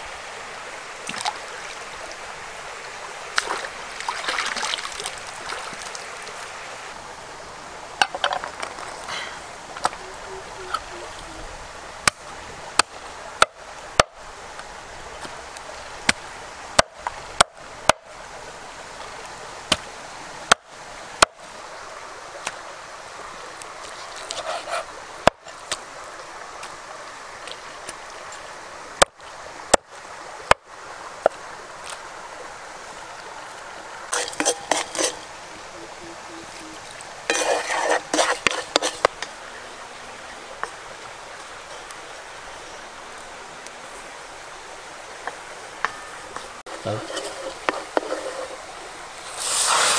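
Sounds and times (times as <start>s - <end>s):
stream running: 0.0s - 49.9s.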